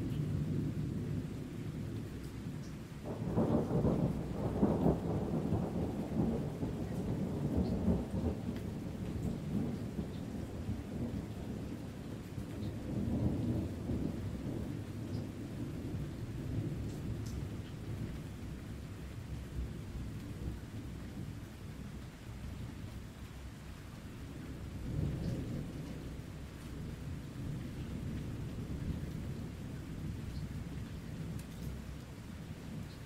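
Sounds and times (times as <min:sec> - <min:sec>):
steady rain: 0:00.0 - 0:33.0
raindrop ticks: 0:02.2 - 0:23.5, 0:25.0 - 0:33.0
deep rolling thunder: 0:03.0 - 0:22.0, 0:24.3 - 0:32.9.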